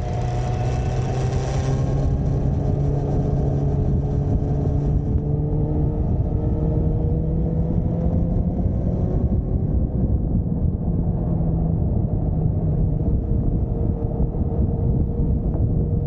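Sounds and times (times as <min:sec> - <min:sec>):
low rumble: 0:00.0 - 0:16.0
motorcycle engine rising in pitch: 0:00.0 - 0:16.0.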